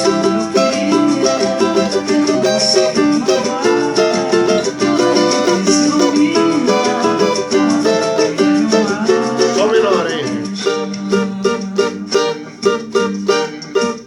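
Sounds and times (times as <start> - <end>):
cavaquinho strummed: 0.0 - 14.0
person singing: 0.0 - 14.0.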